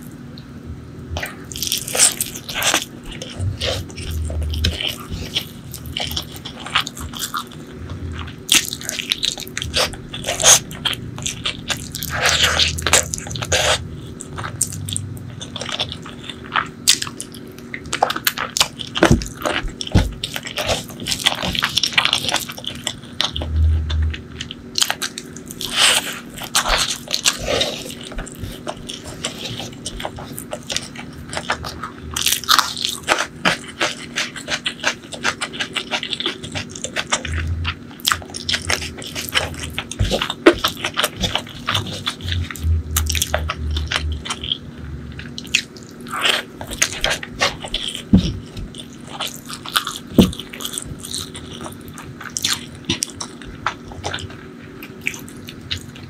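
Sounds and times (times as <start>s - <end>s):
crunching and chewing food: 1.0s - 56.0s.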